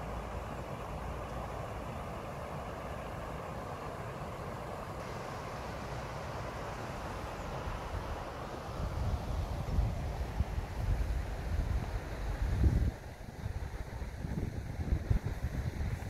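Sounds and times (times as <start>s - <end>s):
river water rushing over weir: 0.0s - 15.9s.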